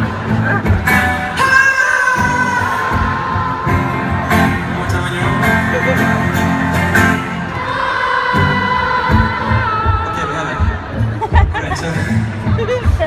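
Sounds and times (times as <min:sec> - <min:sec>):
audience singing in parts: 0:00.0 - 0:11.2
strummed acoustic guitar: 0:00.0 - 0:13.0.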